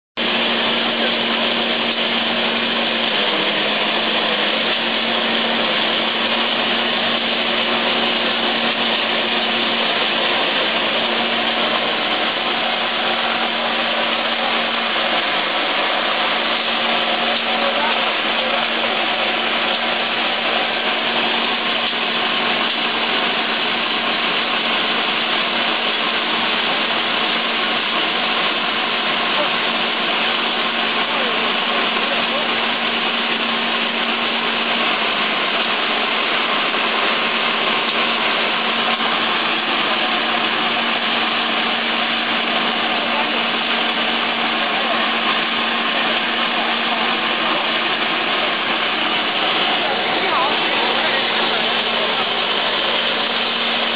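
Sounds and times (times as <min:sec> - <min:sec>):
corn husking machine running: 0:00.2 - 0:53.9.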